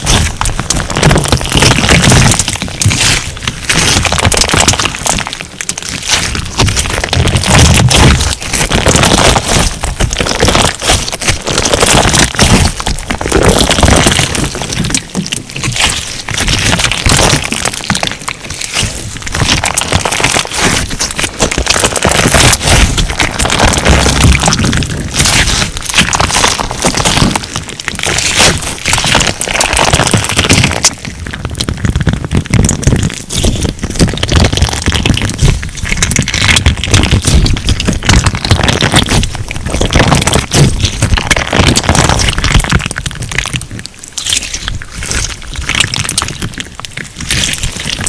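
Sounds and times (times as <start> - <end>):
crunch slime crackling and popping: 0.0 - 48.0.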